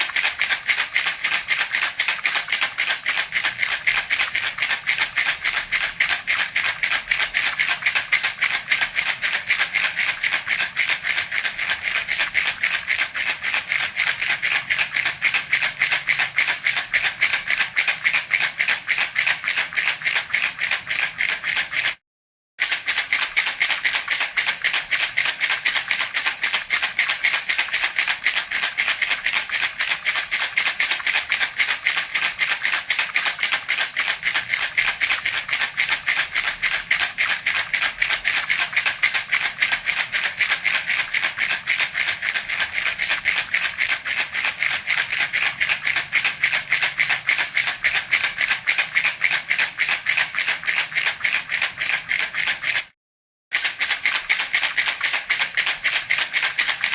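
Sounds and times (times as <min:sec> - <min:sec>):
toy rattle shaking: 0:00.0 - 0:22.0, 0:22.6 - 0:56.9.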